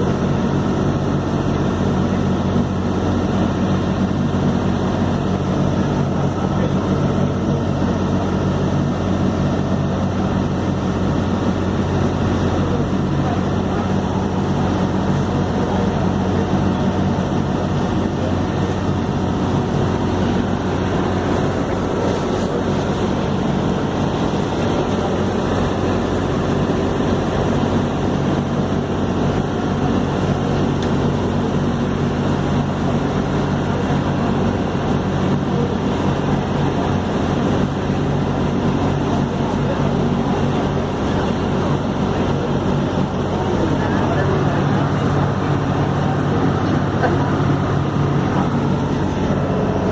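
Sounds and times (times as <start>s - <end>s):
ferry engines droning: 0.0s - 49.9s.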